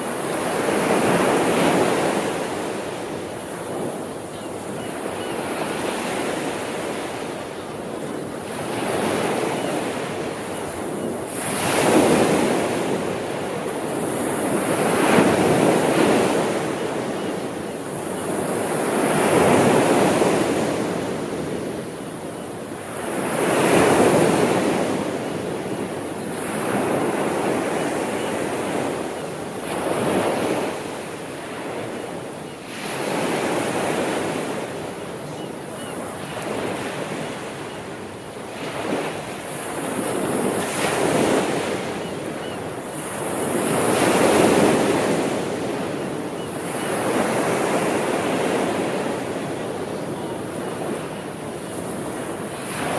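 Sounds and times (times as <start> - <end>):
sea waves breaking on shore: 0.0 - 52.9.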